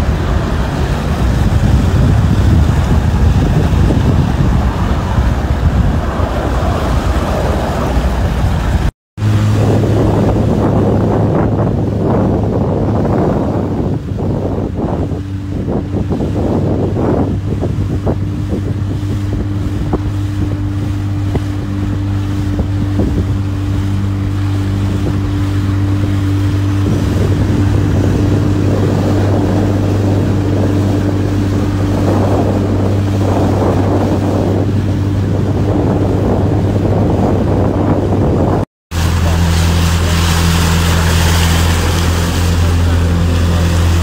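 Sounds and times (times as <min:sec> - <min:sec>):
outboard engine running: 0:00.0 - 0:44.0
water noise: 0:00.0 - 0:44.0
wind on microphone: 0:00.0 - 0:44.0.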